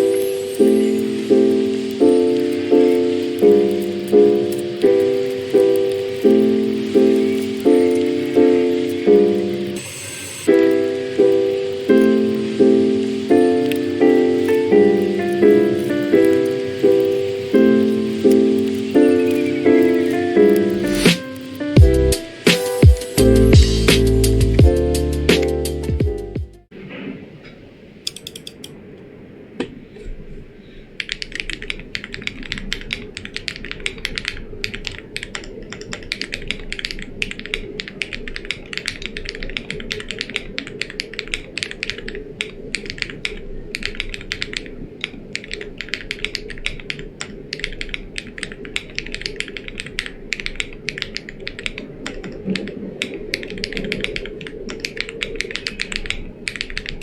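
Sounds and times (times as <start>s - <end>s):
fast typing on mechanical keyboard: 0.0s - 9.8s, 10.5s - 21.9s, 31.0s - 57.0s.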